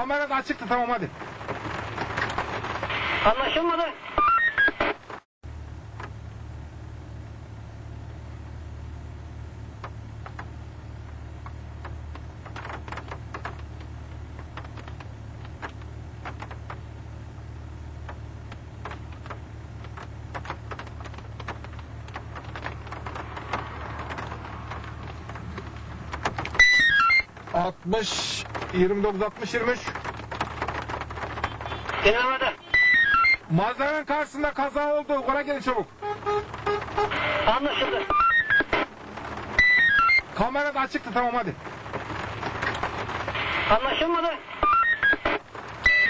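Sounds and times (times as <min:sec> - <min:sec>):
car engine idling: 0:00.0 - 0:03.9, 0:05.0 - 0:46.0
crackling clicks: 0:00.3 - 0:05.3, 0:09.8 - 0:17.0, 0:17.9 - 0:33.8, 0:35.4 - 0:46.0.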